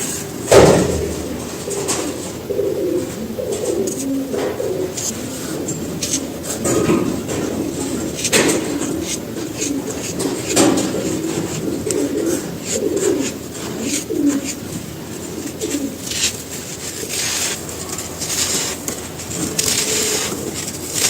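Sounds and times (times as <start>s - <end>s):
pigeon cooing: 0.0s - 21.0s.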